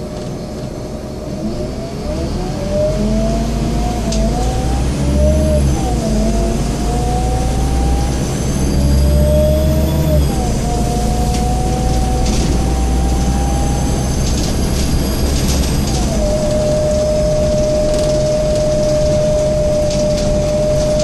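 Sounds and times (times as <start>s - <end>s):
bus diesel engine whining: 0.0s - 21.0s.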